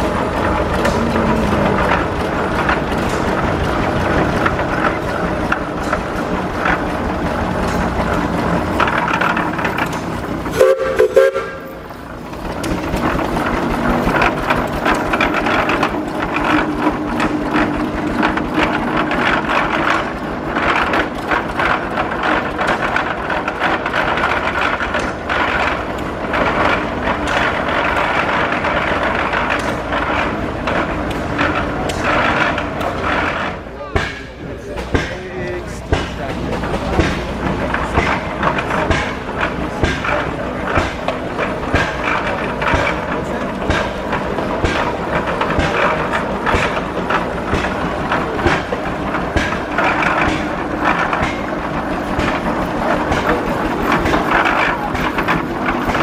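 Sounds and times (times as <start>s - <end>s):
mechanical clatter: 0.0s - 56.0s
steam engine exhaust chuffing: 0.0s - 56.0s.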